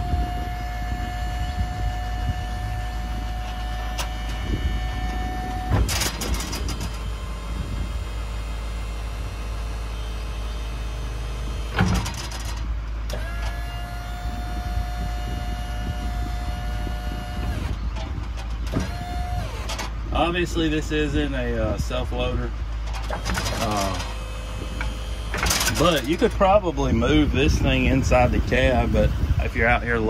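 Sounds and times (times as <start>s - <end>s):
hydraulic drive whine: 0.0s - 21.4s, 22.2s - 30.0s
diesel engine idling: 0.0s - 30.0s.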